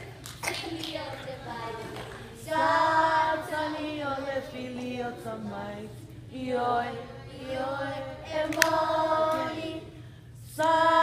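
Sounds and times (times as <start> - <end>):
group of voices singing: 1.3 - 11.0.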